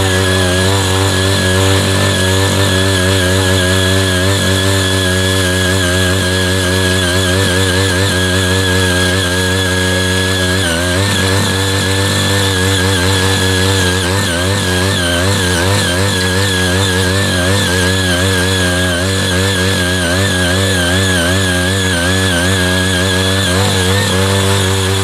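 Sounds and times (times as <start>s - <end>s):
power tiller engine under load: 0.0s - 25.0s.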